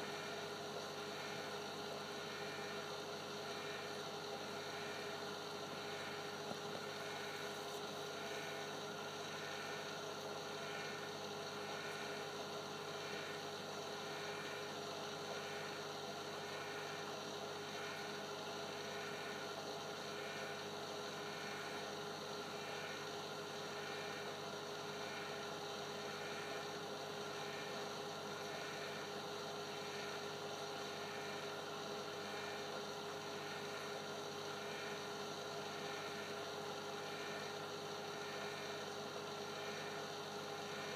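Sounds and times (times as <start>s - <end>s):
steady electrical hum: 0.0s - 40.9s.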